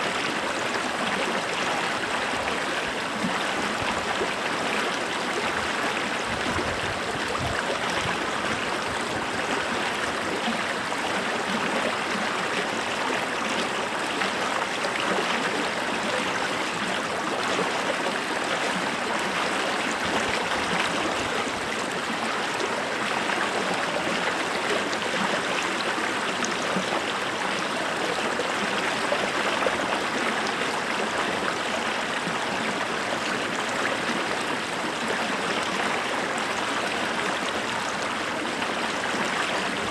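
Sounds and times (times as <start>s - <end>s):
creek water babbling over stones: 0.0s - 39.9s.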